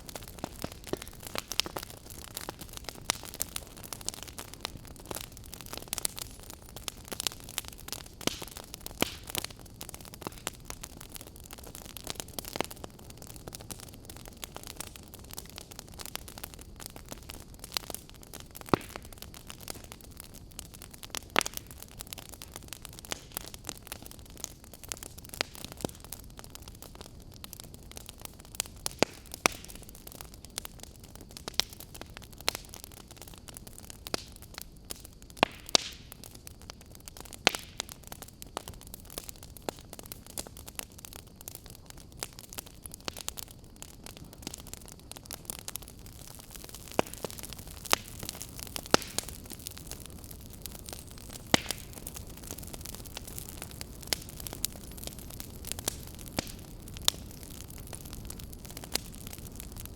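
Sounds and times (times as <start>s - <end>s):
fire popping and snapping: 0.0s - 59.9s
flames hissing and rumbling: 0.0s - 59.9s.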